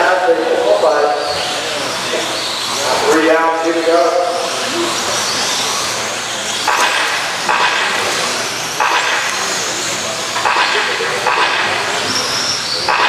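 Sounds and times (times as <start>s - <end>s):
rc truck motor whine: 0.0s - 13.0s.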